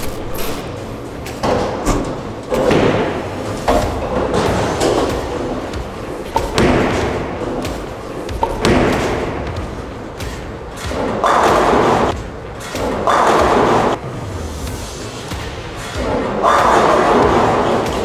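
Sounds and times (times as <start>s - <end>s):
bowling alley clatter: 1.3s - 14.0s, 15.8s - 18.0s.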